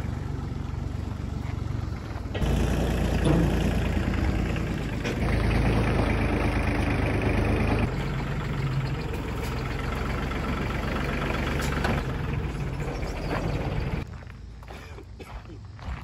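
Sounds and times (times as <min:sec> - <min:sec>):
engine idling: 0:00.0 - 0:14.1.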